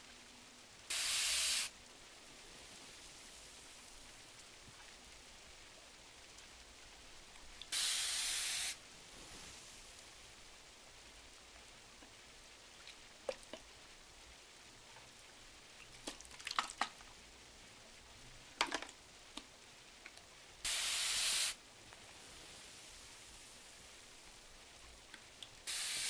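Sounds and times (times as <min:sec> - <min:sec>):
soft rain hissing: 0:00.0 - 0:26.0.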